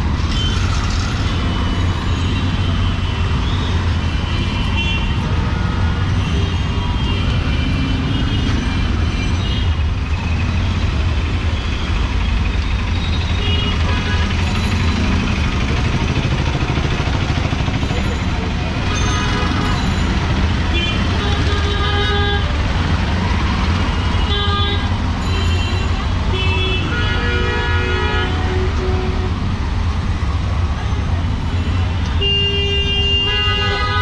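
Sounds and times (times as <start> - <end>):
traffic engines rumbling: 0.0 - 34.0.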